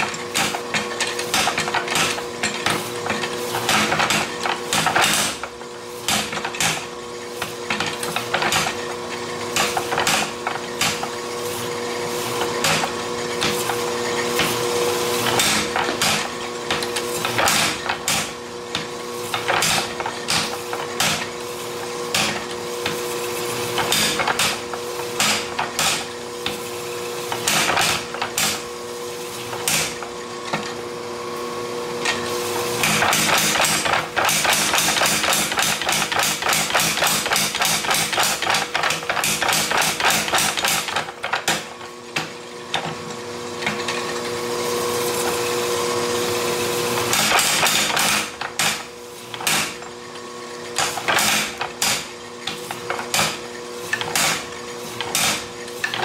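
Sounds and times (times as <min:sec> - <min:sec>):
power hammer striking hot steel: 0:00.0 - 0:08.9, 0:09.5 - 0:11.6, 0:12.2 - 0:13.8, 0:14.4 - 0:23.0, 0:23.7 - 0:26.6, 0:27.3 - 0:28.7, 0:29.4 - 0:30.6, 0:32.8 - 0:42.8, 0:47.0 - 0:49.9, 0:50.7 - 0:56.0
steady machine hum: 0:00.0 - 0:56.0.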